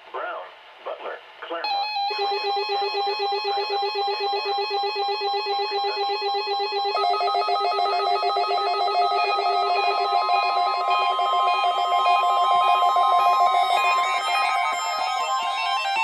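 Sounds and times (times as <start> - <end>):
two-tone alert alarm beeping: 1.6 - 16.0
second alert alarm: 1.7 - 16.0
steady electronic tone: 1.7 - 16.0.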